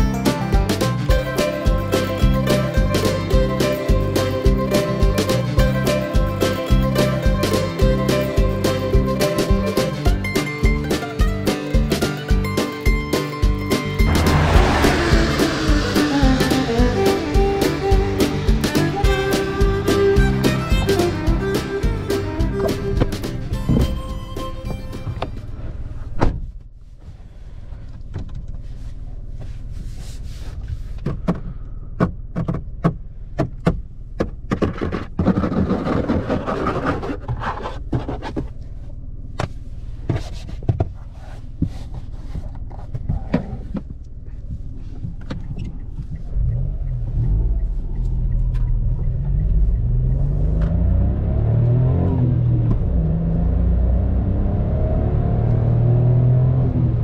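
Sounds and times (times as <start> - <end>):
car engine: 0.0 - 57.0.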